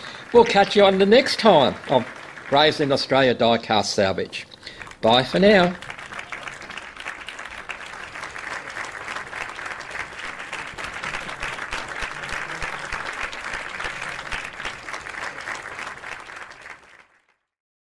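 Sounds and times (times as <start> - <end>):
crowd applauding: 0.0 - 3.9, 4.6 - 17.5.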